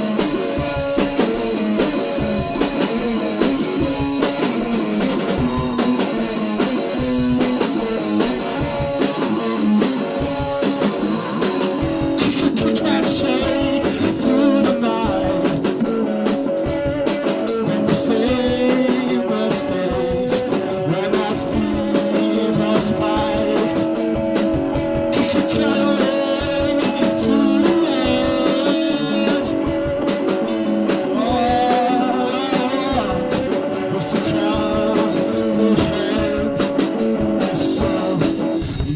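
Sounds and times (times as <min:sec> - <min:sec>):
band playing blues rock: 0:00.0 - 0:38.9
drums: 0:00.0 - 0:38.9
electric guitars: 0:00.0 - 0:38.9.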